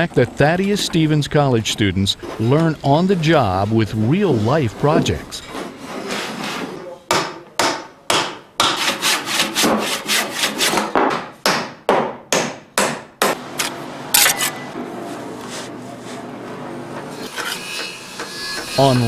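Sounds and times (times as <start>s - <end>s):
steady work noise: 0.0s - 19.0s.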